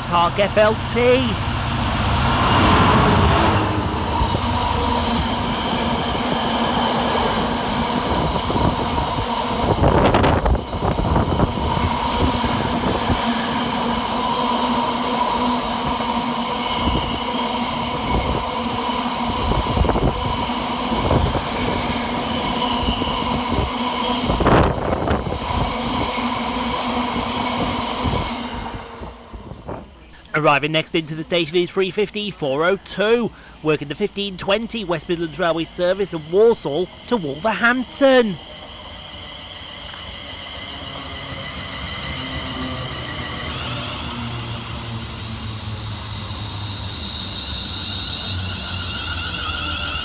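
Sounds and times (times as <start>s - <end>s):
freight train wagons rumbling: 0.0s - 50.0s.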